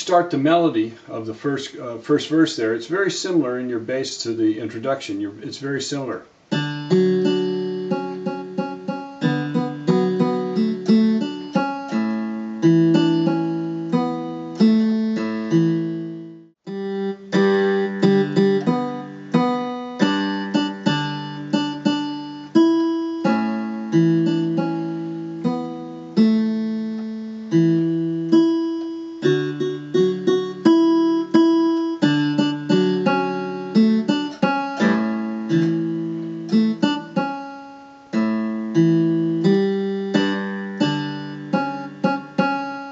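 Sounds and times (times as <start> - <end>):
keyboard guitar melody: 5.6 - 42.9.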